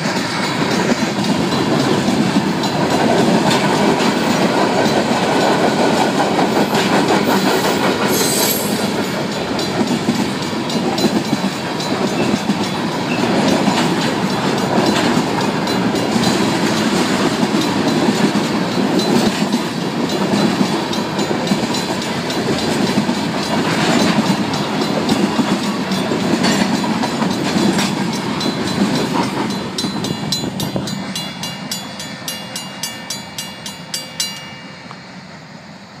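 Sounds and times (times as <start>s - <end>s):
train wheels clacking on rail joints: 0.0s - 35.1s
crossing bell ringing: 0.0s - 36.0s
freight train rumbling past: 0.0s - 36.0s.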